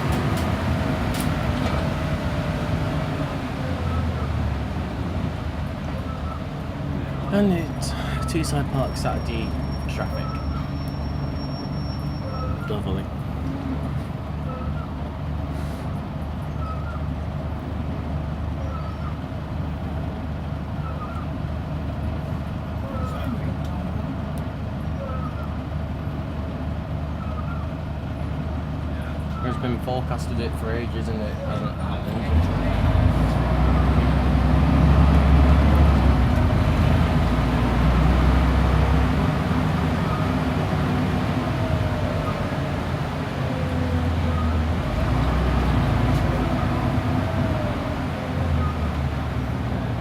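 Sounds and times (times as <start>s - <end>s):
bus engine humming: 0.0s - 50.0s.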